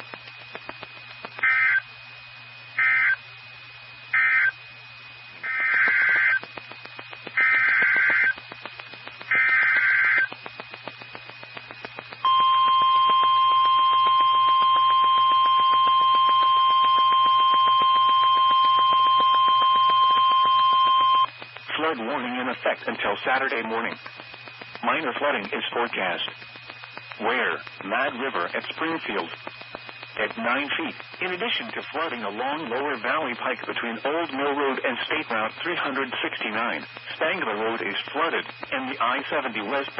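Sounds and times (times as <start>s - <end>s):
buzzy data bursts: 0.0s - 39.9s
faint radio crackle and hum: 0.0s - 39.9s
steady warning alarm tone: 0.2s - 2.0s, 2.6s - 3.4s, 4.1s - 39.9s.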